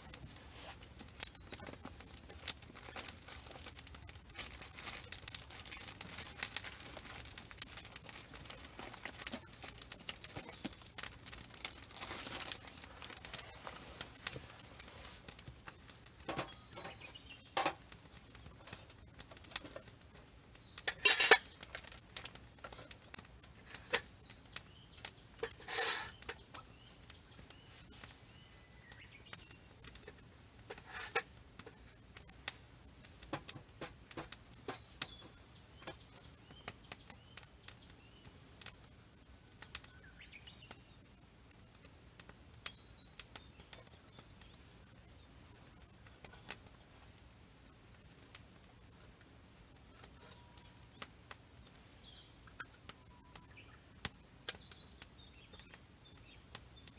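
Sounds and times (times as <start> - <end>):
campfire wood crackling: 0.0 - 56.9.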